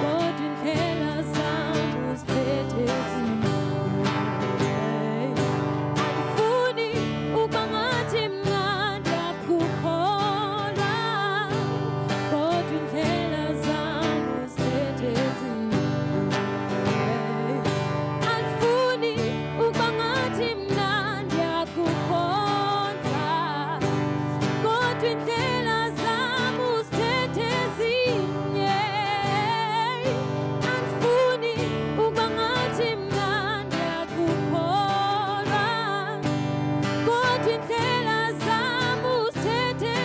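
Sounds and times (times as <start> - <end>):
acoustic guitar strumming: 0.0 - 40.0
person singing with vibrato: 0.0 - 40.0.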